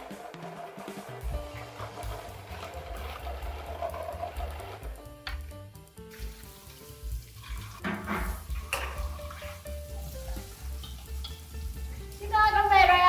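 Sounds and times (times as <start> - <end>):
background music with pulsing beat: 0.0 - 12.2
crackling sizzling noise: 0.0 - 13.0.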